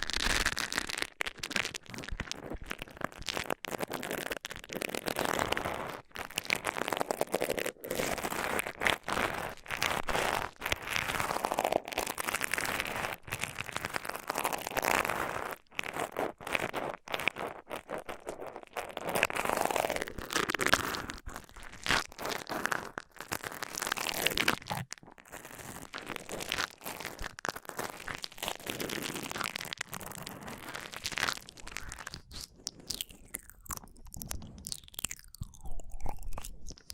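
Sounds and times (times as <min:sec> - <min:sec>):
crinkling and crackling: 0:00.0 - 0:36.9.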